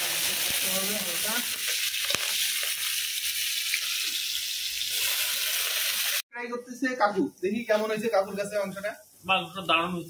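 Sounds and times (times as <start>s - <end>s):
vegetables sizzling in hot oil: 0.0s - 6.2s, 7.6s - 10.0s.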